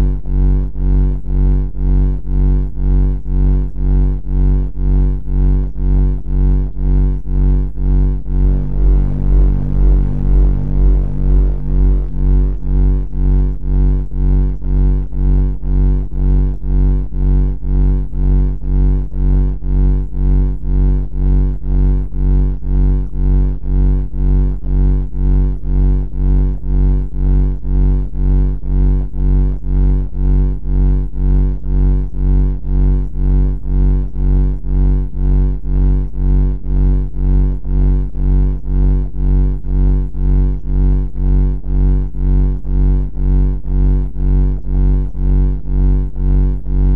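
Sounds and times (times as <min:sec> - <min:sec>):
deep buzzing throbbing drone: 0:00.0 - 0:46.9.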